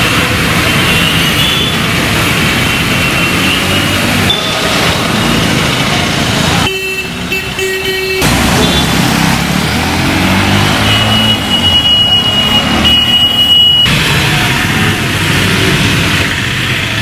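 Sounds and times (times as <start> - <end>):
tyres on wet road: 0.0 - 17.0
vehicle engines running: 0.0 - 17.0.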